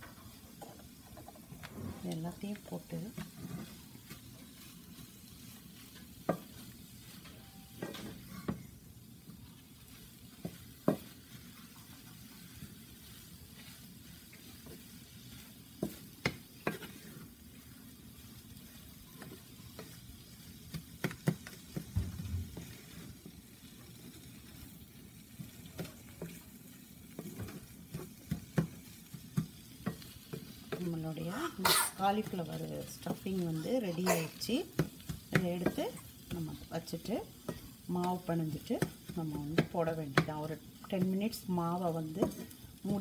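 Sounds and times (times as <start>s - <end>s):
faint frying sound: 0.0s - 43.0s
spatula scraping a skillet: 0.2s - 8.7s, 9.4s - 43.0s.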